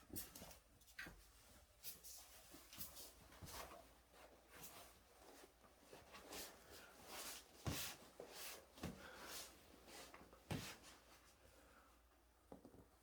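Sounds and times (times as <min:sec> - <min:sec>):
faint rustling and scratching: 0:00.0 - 0:13.0.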